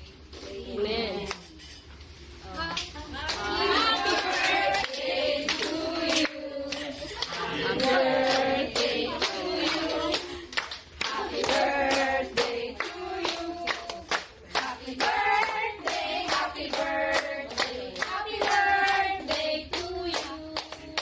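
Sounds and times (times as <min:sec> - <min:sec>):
group of voices singing: 0:03.2 - 0:21.0.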